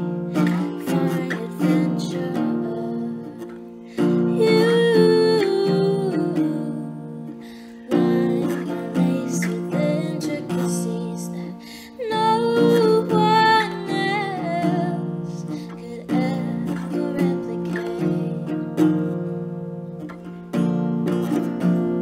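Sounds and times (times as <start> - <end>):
woman singing: 0.0 - 19.6
strummed acoustic guitar: 0.0 - 22.0.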